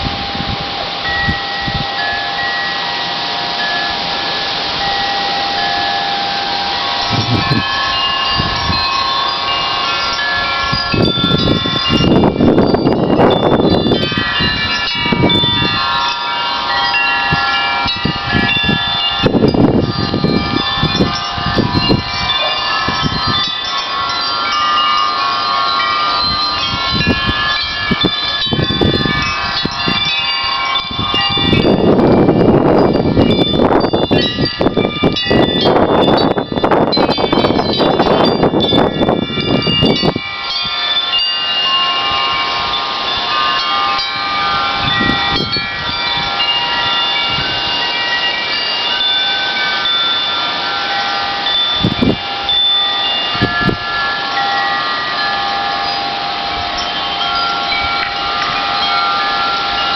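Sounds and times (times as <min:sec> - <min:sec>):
wind chimes ringing: 0:00.0 - 0:59.9
wind gusts on microphone: 0:00.0 - 0:59.9.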